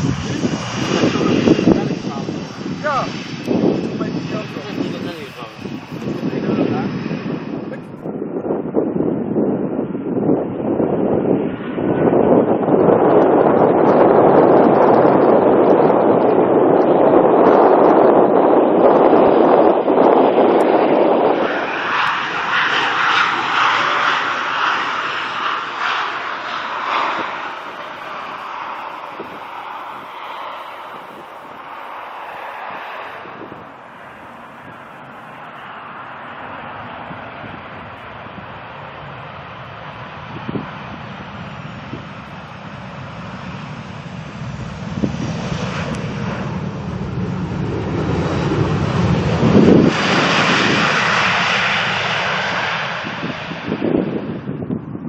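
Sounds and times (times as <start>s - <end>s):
airliner engines passing: 0.0s - 55.0s.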